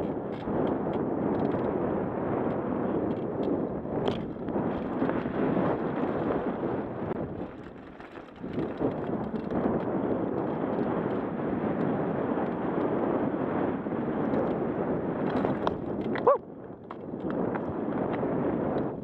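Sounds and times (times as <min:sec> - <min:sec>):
bike tyres rumbling over dirt: 0:00.0 - 0:19.0
wind rushing over microphone: 0:00.0 - 0:19.0.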